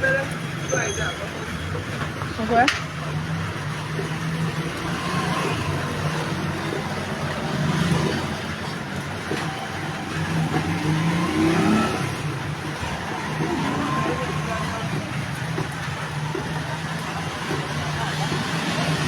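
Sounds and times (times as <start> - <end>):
road noise: 0.0 - 19.0
vehicle engine running: 0.0 - 19.0.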